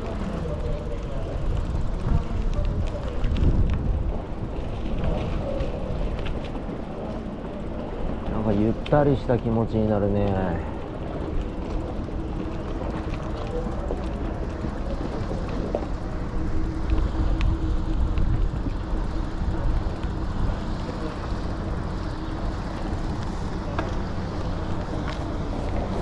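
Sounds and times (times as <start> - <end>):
road noise: 0.0 - 26.0
wind rumble on microphone: 0.0 - 26.0.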